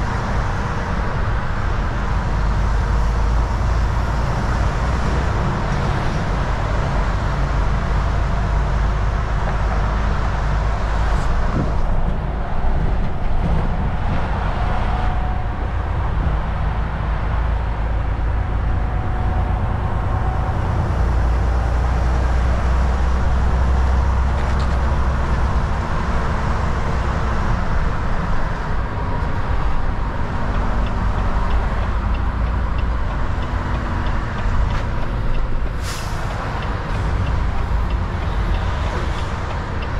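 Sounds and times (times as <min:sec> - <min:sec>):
road noise: 0:00.0 - 0:39.9
truck engine drone: 0:00.0 - 0:39.9.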